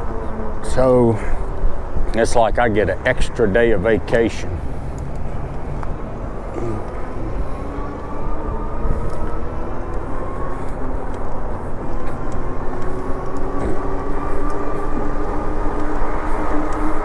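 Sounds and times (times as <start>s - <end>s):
electric bike motor whining: 0.0s - 17.0s
wind rumble on microphone: 0.0s - 17.0s.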